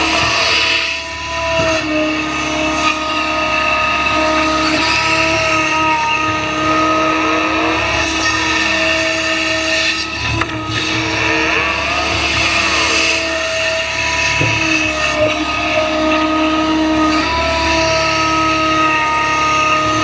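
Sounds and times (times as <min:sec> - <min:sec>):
excavator diesel engine: 0:00.0 - 0:20.0
hydraulic whine: 0:00.0 - 0:20.0.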